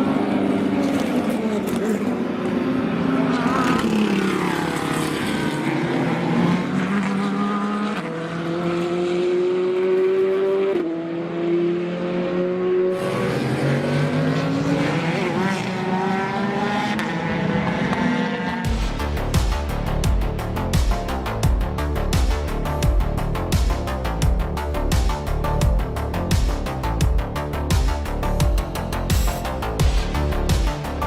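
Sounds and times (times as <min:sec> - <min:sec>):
race car engine accelerating: 0:00.0 - 0:31.0.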